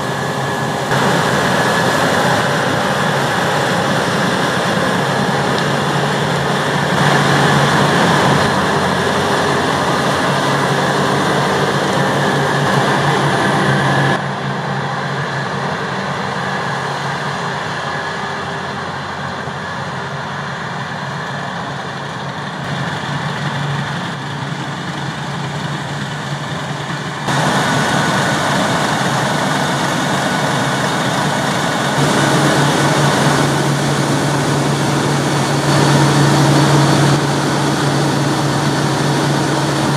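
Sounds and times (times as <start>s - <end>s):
heavy machinery engines running: 0.0s - 39.9s.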